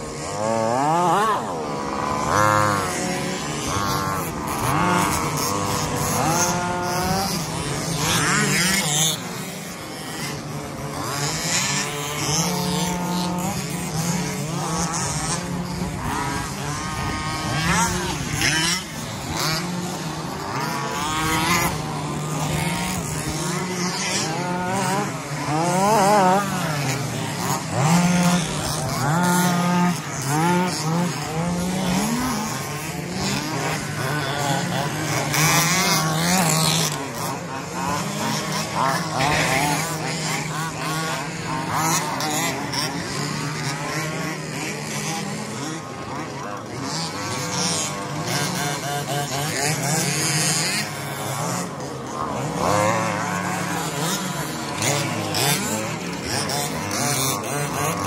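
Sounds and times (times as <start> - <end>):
remote-control car motors whining: 0.0 - 58.0.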